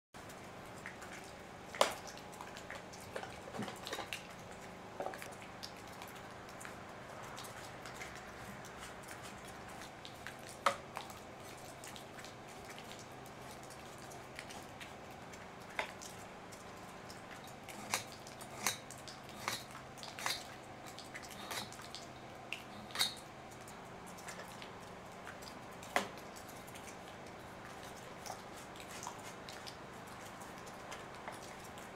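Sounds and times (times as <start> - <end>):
faint steady background noise: 0.2 - 31.9.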